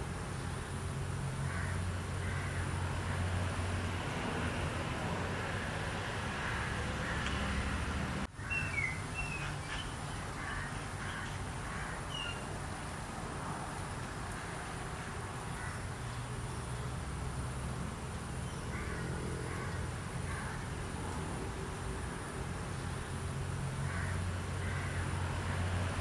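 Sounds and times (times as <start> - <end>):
low rumble and hiss: 0.0 - 26.0.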